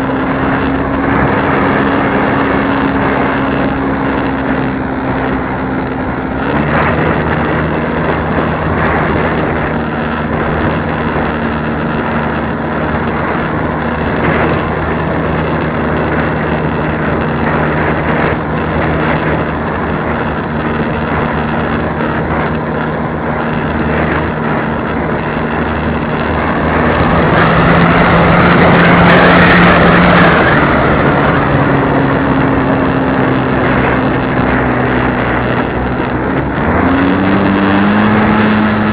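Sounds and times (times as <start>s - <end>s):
model airplane motor and propeller: 0.0s - 38.9s
wind rushing: 0.0s - 38.9s.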